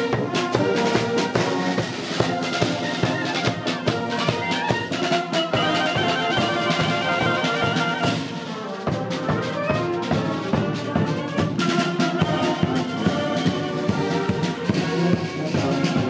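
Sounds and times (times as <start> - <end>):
brass and bugles: 0.0 - 16.0
marching drums beat: 0.0 - 16.0.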